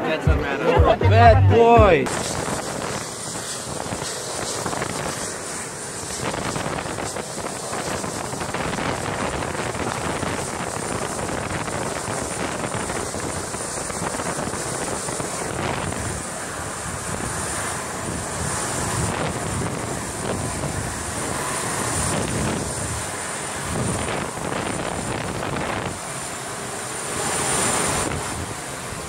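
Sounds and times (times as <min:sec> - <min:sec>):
jet engine rush and whine: 0:01.5 - 0:29.0
wind buffeting microphone: 0:01.8 - 0:29.0.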